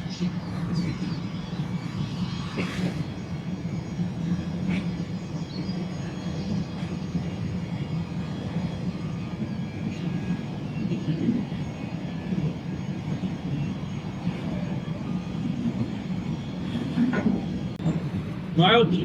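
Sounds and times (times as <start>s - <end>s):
low mechanical rumble: 0.0s - 19.0s.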